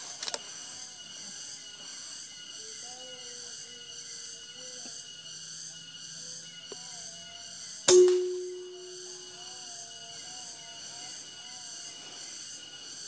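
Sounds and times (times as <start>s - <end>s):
faint lower insect calls: 0.0s - 13.0s
high-pitched insect chorus: 0.0s - 13.0s.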